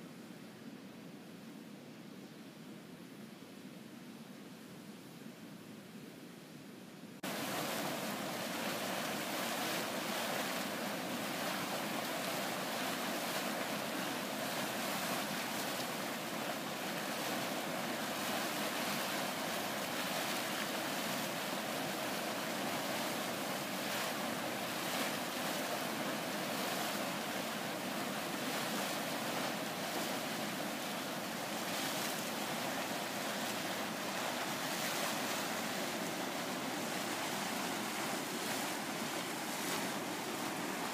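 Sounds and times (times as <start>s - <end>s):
hot spring water and steam gushing: 2.6s - 40.9s.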